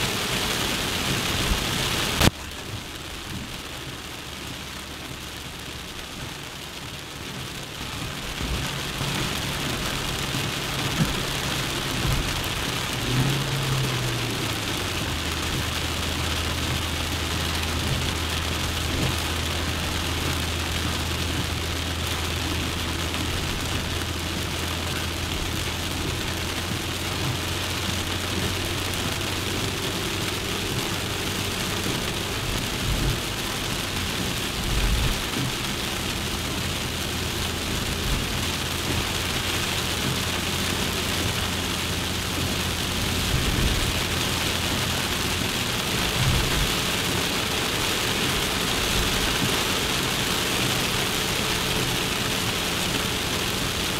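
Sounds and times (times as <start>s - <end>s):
car engine drone: 0.0s - 53.9s.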